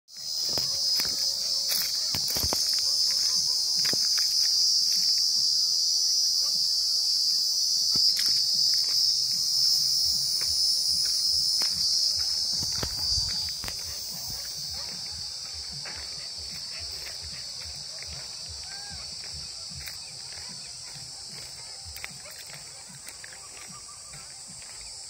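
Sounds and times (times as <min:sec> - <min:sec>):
insects chirring: 0:00.1 - 0:25.0.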